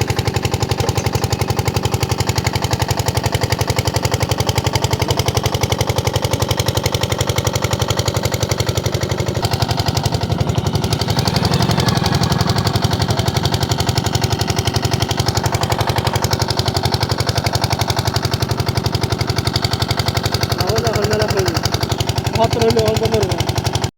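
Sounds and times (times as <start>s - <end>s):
small engine running: 0.0s - 23.9s.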